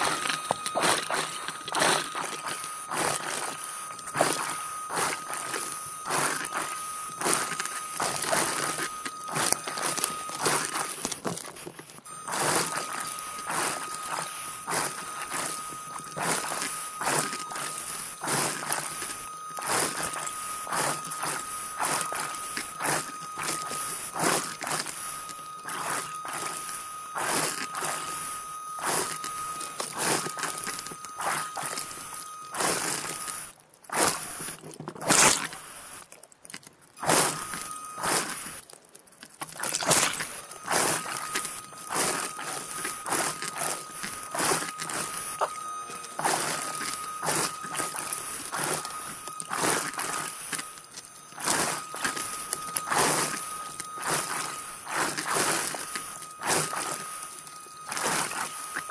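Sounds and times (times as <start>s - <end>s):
underwater motor whine: 0.0s - 34.6s, 37.0s - 38.7s, 39.5s - 58.9s.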